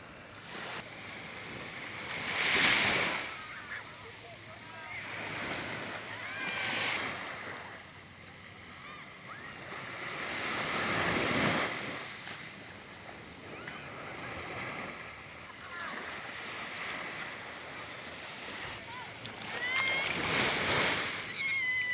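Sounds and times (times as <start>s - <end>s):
gentle waves breaking on sand: 0.0s - 21.9s.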